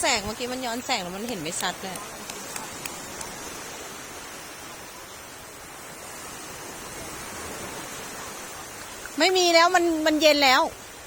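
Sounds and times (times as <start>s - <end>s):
sea surf rushing: 0.0s - 11.0s.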